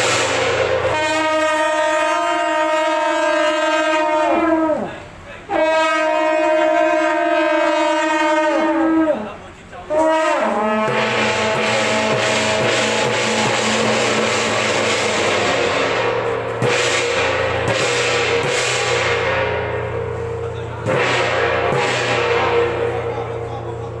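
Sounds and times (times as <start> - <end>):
drums and cymbals: 0.0 - 5.9, 8.6 - 24.0
heavy drum strikes: 0.0 - 7.2, 8.4 - 24.0
wind instrument tones: 0.0 - 24.0.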